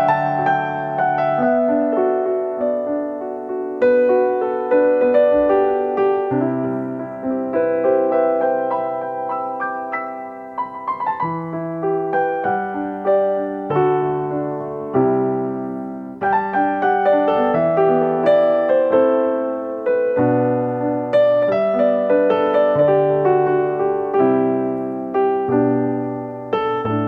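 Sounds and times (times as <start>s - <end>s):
slow gentle piano music: 0.0s - 27.0s.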